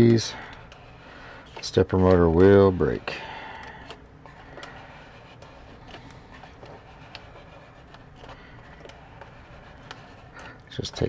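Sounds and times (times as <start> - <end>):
low steady hum: 0.0 - 11.0
plastic clicks and scrapes: 0.0 - 11.0.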